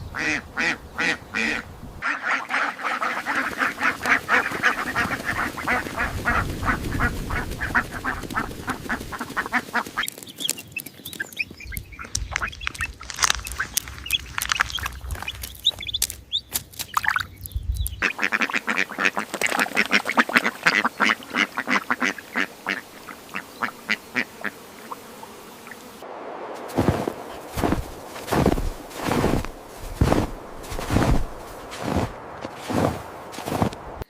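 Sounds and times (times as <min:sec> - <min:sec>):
ducks quacking: 0:00.0 - 0:10.1, 0:11.4 - 0:16.4, 0:18.0 - 0:26.0, 0:26.7 - 0:34.0.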